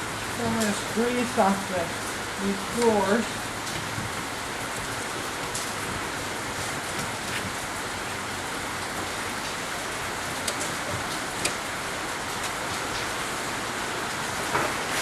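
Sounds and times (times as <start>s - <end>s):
water hissing like rain: 0.0s - 15.0s.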